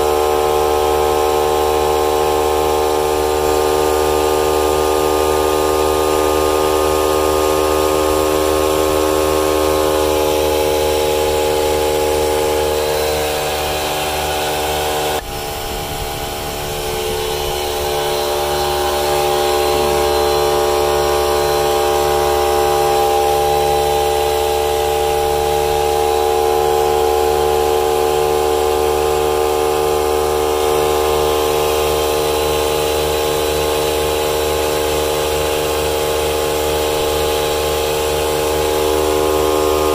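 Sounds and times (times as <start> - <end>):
air compressor droning: 0.0 - 39.9.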